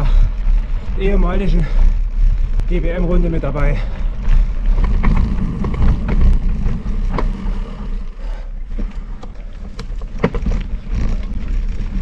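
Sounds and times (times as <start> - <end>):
bike knocking and rattling: 0.0 - 12.0
tyres rumbling on trail: 0.0 - 12.0.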